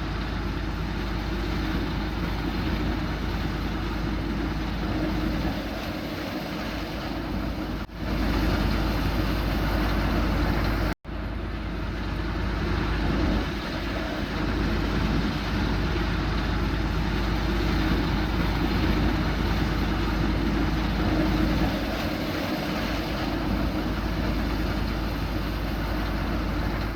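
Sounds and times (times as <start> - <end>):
combine harvester running: 0.0 - 26.9.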